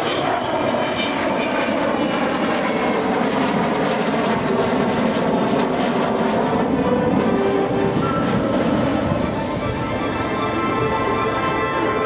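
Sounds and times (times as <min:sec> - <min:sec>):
jet aircraft engines: 0:00.0 - 0:12.0.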